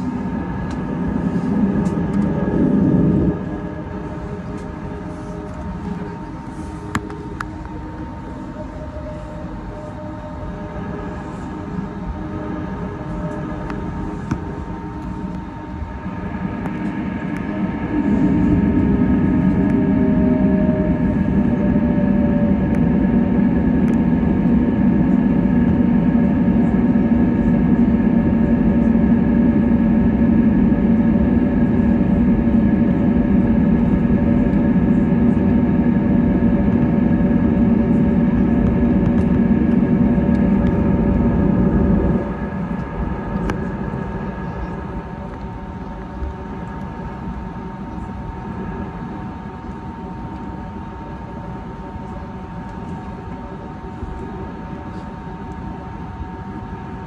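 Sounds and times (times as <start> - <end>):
low rumble: 0.0 - 46.6
aircraft engine whine: 0.0 - 57.0.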